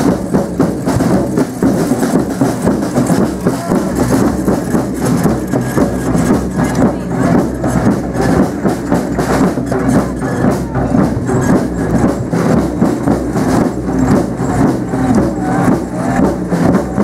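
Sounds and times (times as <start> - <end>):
crowd voices: 0.0 - 17.0
marching drums beating: 0.0 - 17.0.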